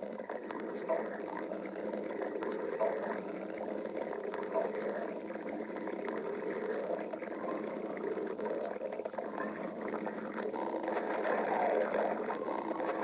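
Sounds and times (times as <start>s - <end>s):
stomach growling: 0.0s - 13.0s.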